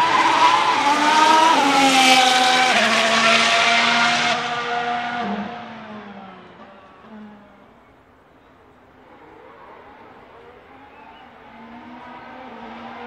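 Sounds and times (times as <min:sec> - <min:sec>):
race car accelerating hard: 0:00.0 - 0:07.9, 0:08.8 - 0:13.0.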